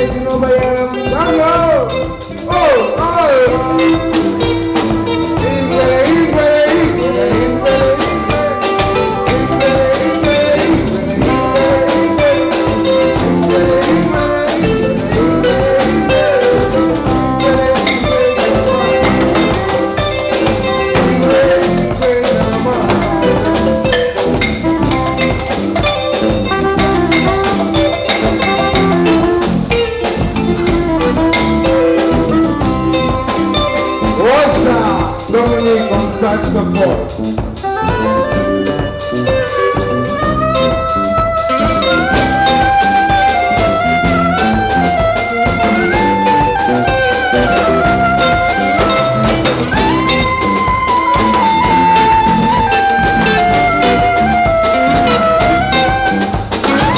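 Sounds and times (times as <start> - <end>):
electric bass: 0.0 - 56.9
live band playing: 0.0 - 56.9.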